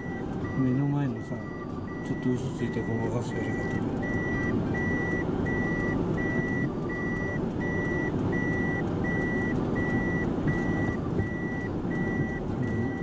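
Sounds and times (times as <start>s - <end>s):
high electronic warning beeps: 0.0s - 13.0s.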